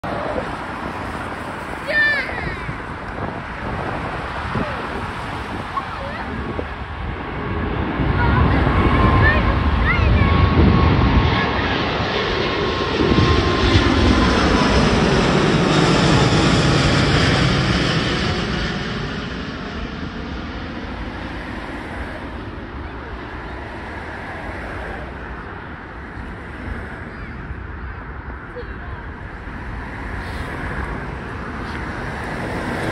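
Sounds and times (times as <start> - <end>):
jet engines roaring overhead: 0.0 - 32.9.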